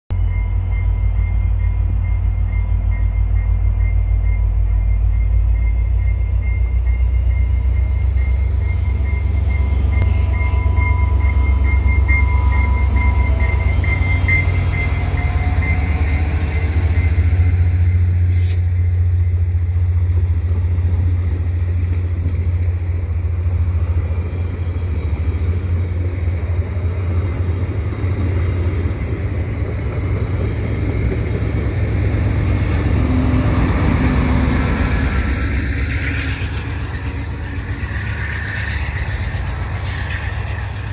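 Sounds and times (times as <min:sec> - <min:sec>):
locomotive high whine: 0:00.1 - 0:40.9
train passing with heavy rumble: 0:00.1 - 0:40.9
train wheels rolling on rails: 0:00.6 - 0:40.9.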